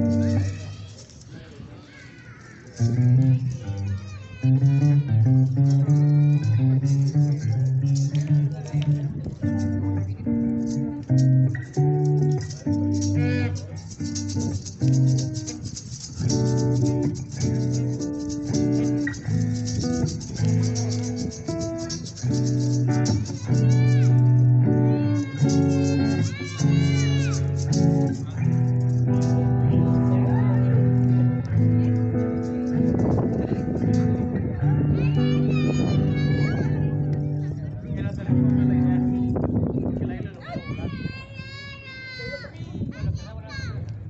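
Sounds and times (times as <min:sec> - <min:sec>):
guitar and bass music: 0:00.0 - 0:00.8, 0:02.8 - 0:40.2
shaker keeping a fast beat: 0:00.0 - 0:41.6.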